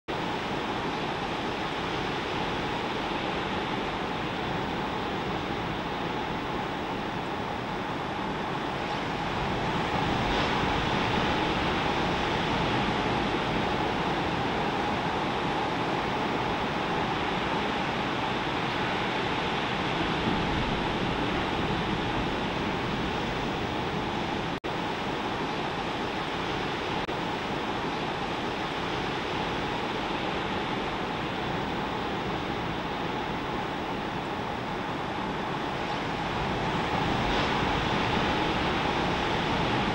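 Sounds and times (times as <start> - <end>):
wind: 0.1 - 39.9
ocean surf breaking: 0.2 - 39.9.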